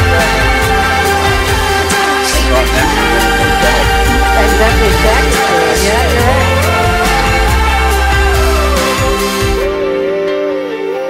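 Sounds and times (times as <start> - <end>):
background music with deep bass: 0.0 - 11.0.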